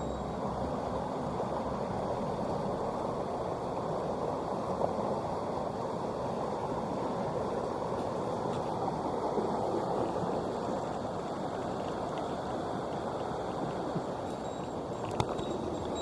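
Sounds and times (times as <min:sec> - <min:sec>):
water rushing over rocks: 0:00.1 - 0:16.0.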